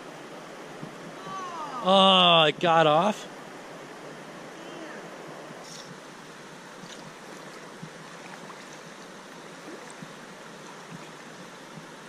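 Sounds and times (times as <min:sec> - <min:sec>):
creek water running: 0:00.0 - 0:12.0
water gurgling: 0:00.0 - 0:12.0.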